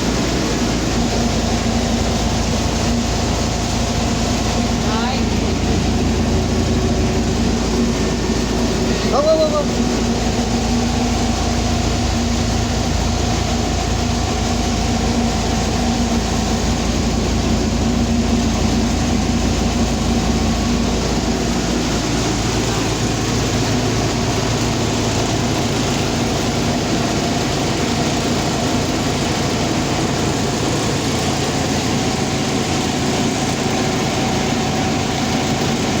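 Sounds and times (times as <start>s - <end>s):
heavy machinery humming: 0.0s - 36.0s.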